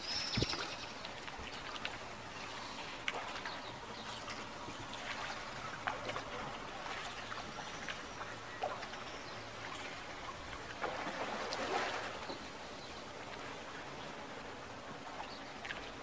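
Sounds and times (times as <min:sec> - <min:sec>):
oar splashing and dripping: 0:00.0 - 0:14.0
water lapping against hull: 0:00.0 - 0:16.0.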